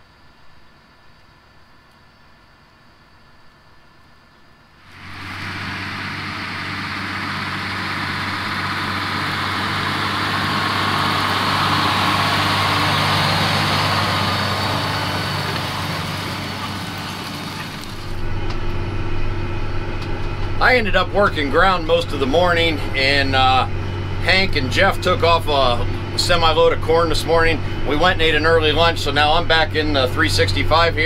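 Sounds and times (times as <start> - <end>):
tractor diesel engine under load: 4.9 - 31.0.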